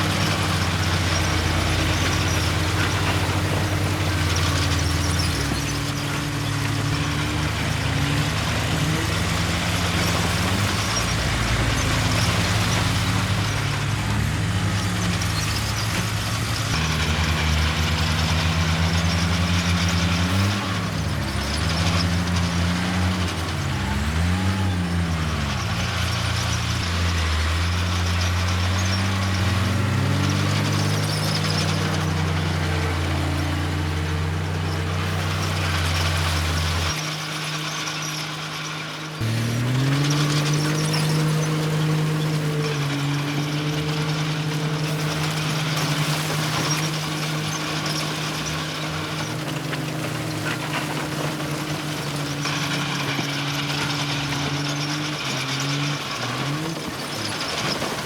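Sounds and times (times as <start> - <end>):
diesel engines running: 0.0 - 58.0
engine revving: 0.0 - 58.0.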